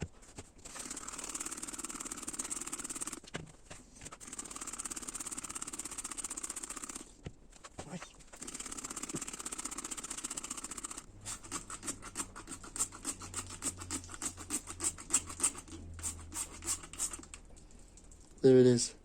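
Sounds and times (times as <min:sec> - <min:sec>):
rapid irregular clicking: 0:00.0 - 0:18.5.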